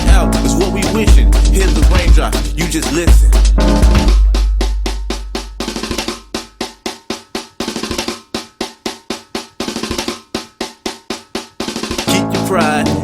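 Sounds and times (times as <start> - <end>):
sharp snare drum hits: 0.0 - 13.0.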